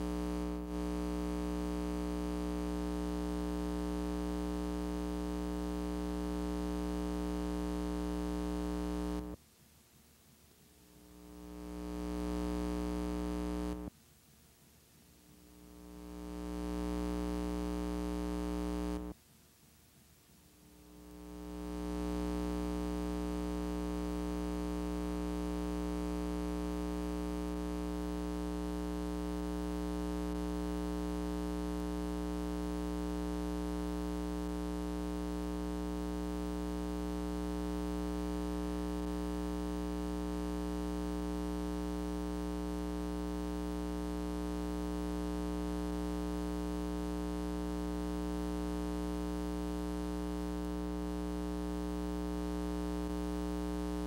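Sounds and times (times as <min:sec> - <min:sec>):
electrical mains hum: 0:00.0 - 0:09.5, 0:10.3 - 0:14.0, 0:14.9 - 0:19.2, 0:20.4 - 0:54.0.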